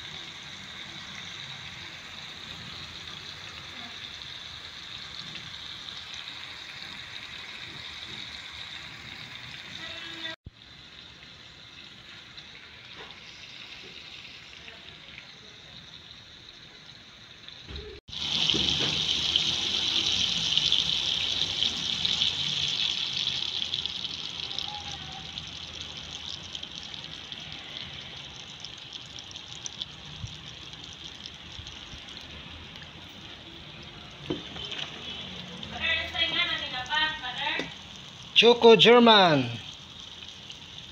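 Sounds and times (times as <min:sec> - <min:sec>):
egg sizzling in hot pan: 0:00.0 - 0:40.9.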